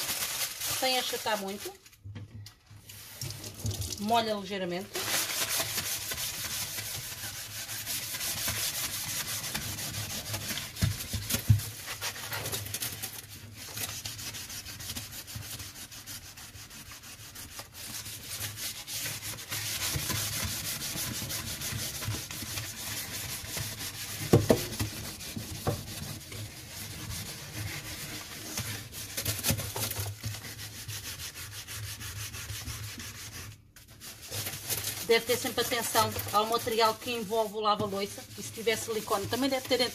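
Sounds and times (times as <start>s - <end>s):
foil scrubbing steel sink: 0.0s - 1.9s, 2.8s - 39.9s.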